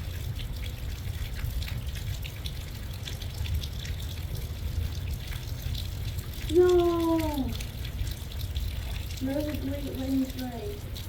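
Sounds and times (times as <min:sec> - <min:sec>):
heavy rain: 0:00.0 - 0:11.0
drops ticking close by: 0:00.1 - 0:11.0.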